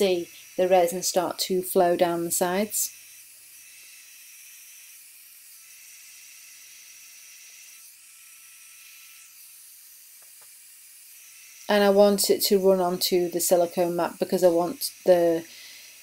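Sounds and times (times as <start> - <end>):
heat gun blowing air: 0.0 - 16.0.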